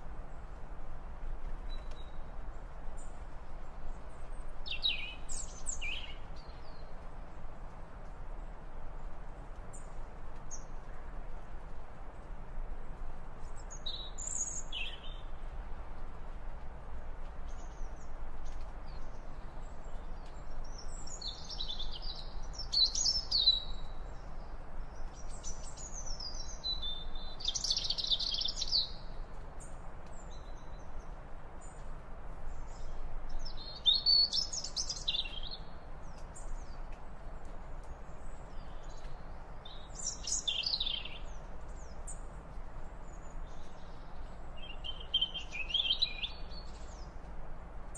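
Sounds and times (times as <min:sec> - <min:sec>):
low background hiss: 0:00.0 - 0:47.9.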